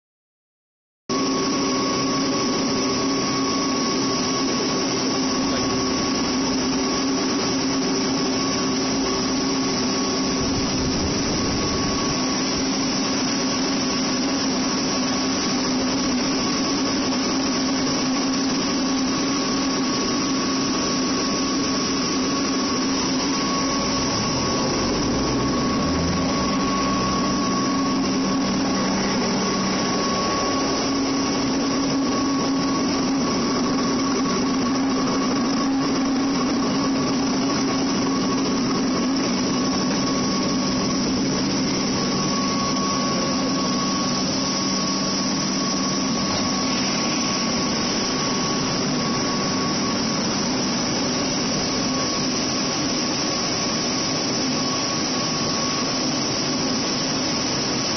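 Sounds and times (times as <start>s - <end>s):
rice huller drone: 1.1s - 57.9s
steady machine whine: 1.1s - 57.9s.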